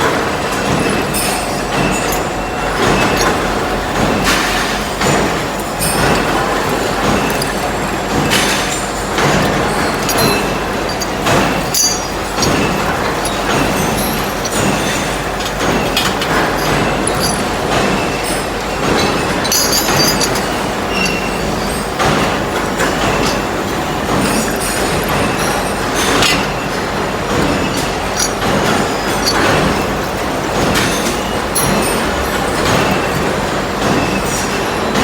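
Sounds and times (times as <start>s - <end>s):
sharp metallic clinks: 0.9s - 26.5s, 27.4s - 32.8s.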